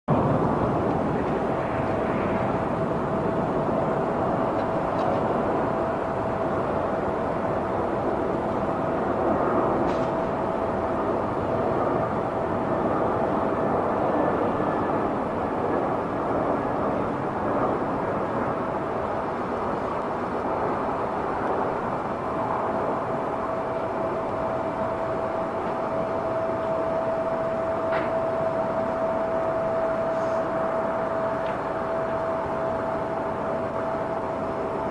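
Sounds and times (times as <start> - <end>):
airliner engines rushing: 0.1 - 34.9
thin engine whine: 0.1 - 34.9.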